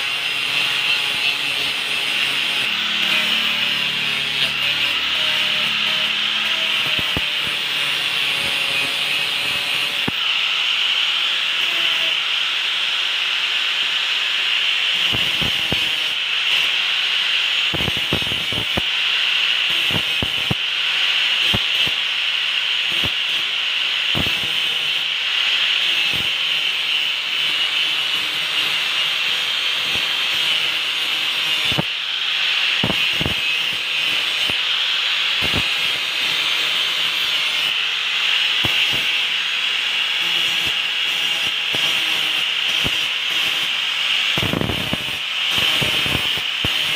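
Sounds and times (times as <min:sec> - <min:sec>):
angle grinder grinding steel: 0:00.0 - 0:46.9.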